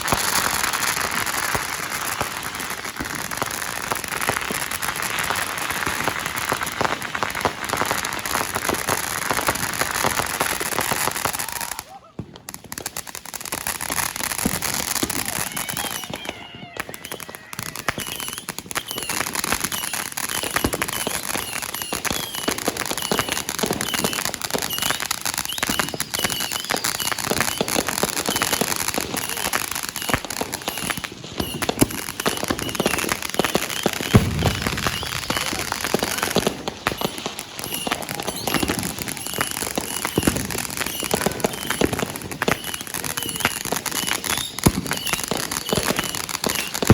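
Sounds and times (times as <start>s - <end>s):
fireworks popping and banging: 0.0s - 46.9s.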